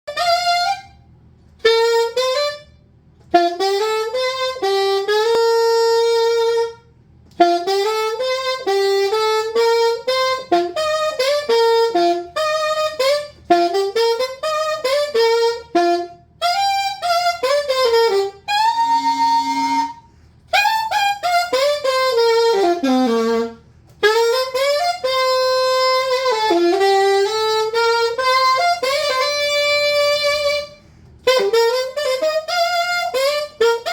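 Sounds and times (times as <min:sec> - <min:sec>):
solo saxophone melody: 0:00.0 - 0:33.9.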